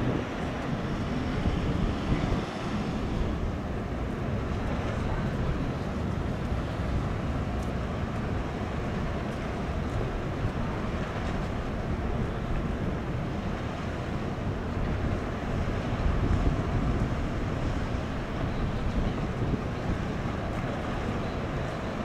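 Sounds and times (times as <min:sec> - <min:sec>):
ship machinery rumble: 0:00.0 - 0:22.0
wind on microphone: 0:00.0 - 0:22.0.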